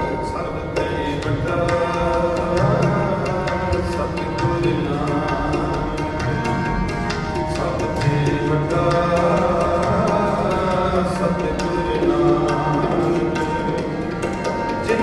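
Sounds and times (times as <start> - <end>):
harmonium chords: 0.0 - 15.0
tabla strokes: 0.0 - 15.0.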